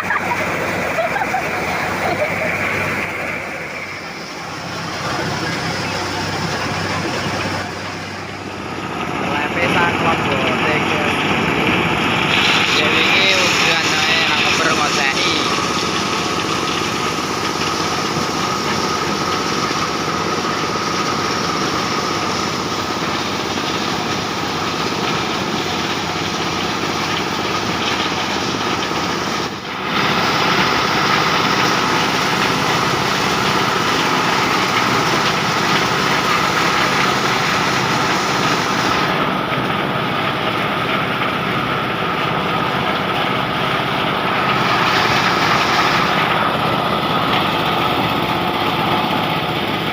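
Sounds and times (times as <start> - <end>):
corn sheller droning: 0.0 - 49.9.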